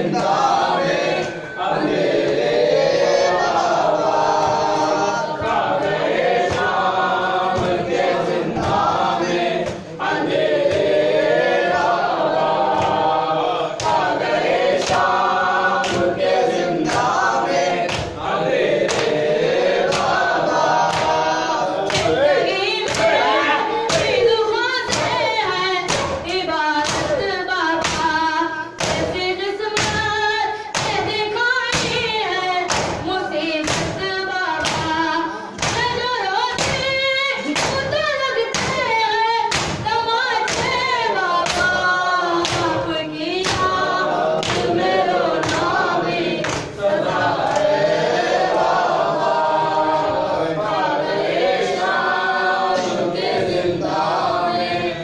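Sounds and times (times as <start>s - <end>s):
mourners chanting: 0.0s - 55.0s.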